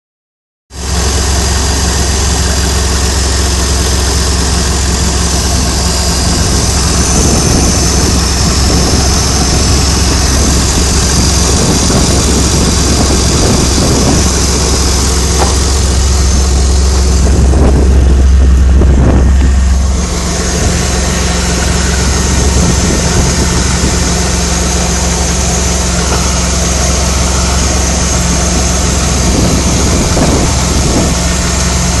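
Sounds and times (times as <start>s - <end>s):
car engine idling: 0.8s - 32.0s
pulley bearing rattling: 4.8s - 31.3s.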